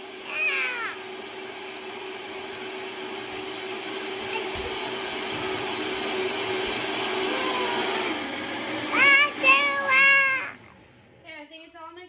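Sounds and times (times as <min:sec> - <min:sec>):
electric mixer humming: 0:00.0 - 0:11.2.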